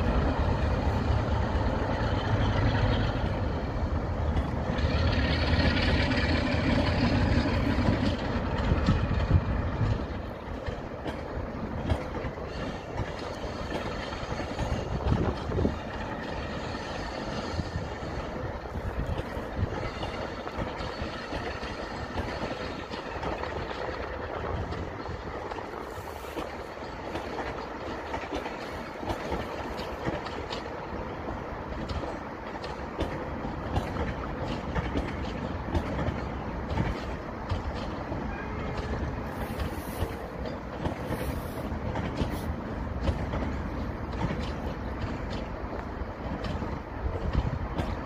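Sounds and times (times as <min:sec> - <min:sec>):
electric train rolling past: 0:00.0 - 0:48.0
wheels clicking on track: 0:00.0 - 0:48.0.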